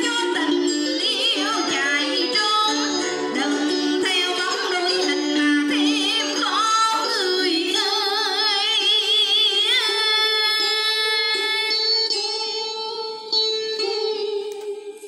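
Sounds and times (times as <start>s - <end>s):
karaoke backing track: 0.0s - 15.0s
person singing with vibrato: 0.0s - 15.0s.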